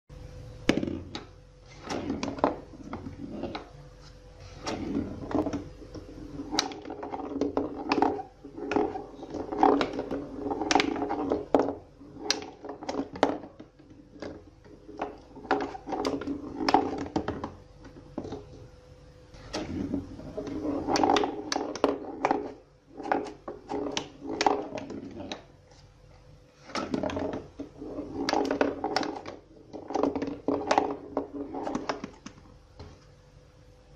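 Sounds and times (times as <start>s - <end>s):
ball rolling on cardboard: 0.6s - 33.2s.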